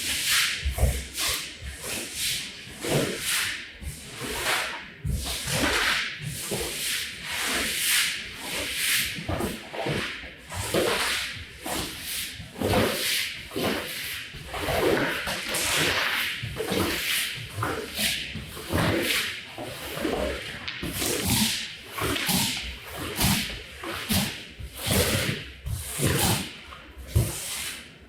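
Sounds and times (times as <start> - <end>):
rubbing strokes across a rug: 0.0 - 28.0.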